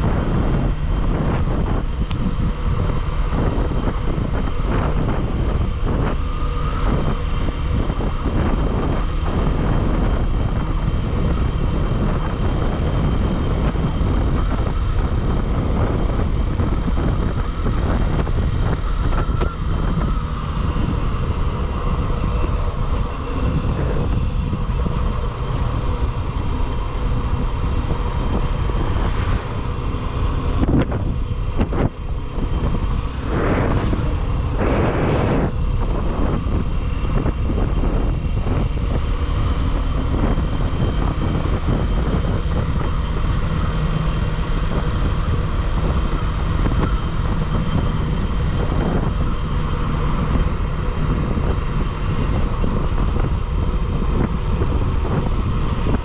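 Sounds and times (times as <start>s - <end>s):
motorcycle engine and road noise: 0.0s - 56.0s
wind rushing over microphone: 0.0s - 56.0s.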